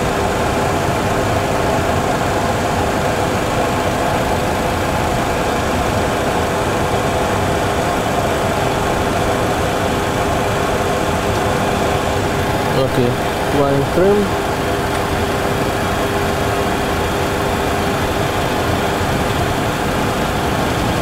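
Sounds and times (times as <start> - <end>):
constant hum: 0.0 - 21.0
simulated jet engine noise: 0.0 - 21.0.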